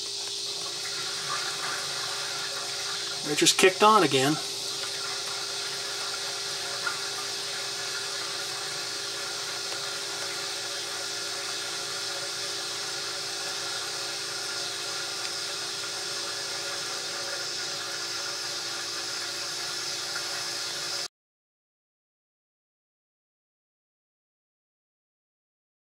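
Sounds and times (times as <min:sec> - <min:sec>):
faint refrigerator hum: 0:00.0 - 0:21.1
refrigerant hissing: 0:00.0 - 0:21.1.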